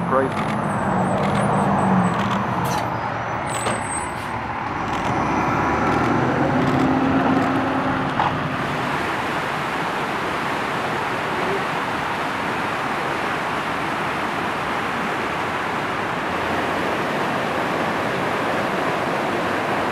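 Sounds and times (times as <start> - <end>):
continuous rushing noise: 0.0 - 19.9.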